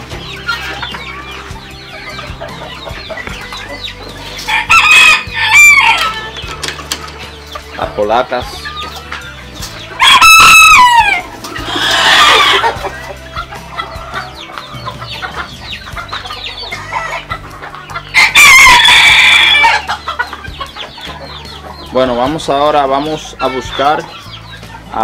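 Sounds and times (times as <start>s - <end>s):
chickens clucking: 0.0s - 25.0s
roosters crowing: 0.0s - 25.0s.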